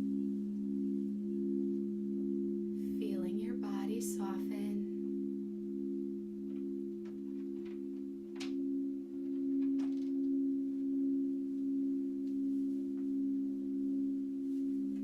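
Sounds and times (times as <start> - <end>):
singing bowls drone: 0.0 - 15.0.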